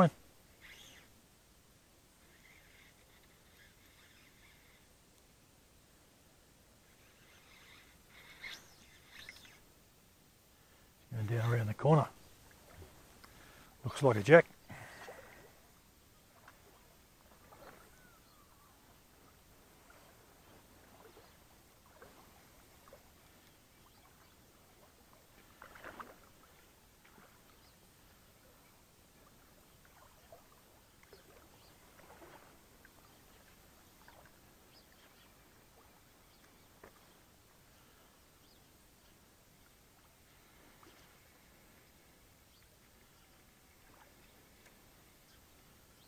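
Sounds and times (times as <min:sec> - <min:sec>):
low hiss: 0:00.0 - 0:46.0.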